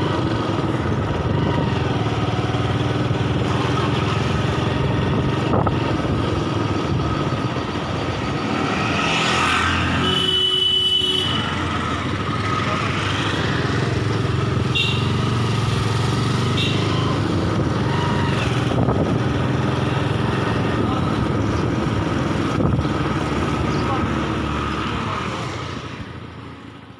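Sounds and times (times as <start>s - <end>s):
small vehicle engine running: 0.0s - 10.0s, 11.4s - 26.2s
road noise: 0.0s - 26.9s.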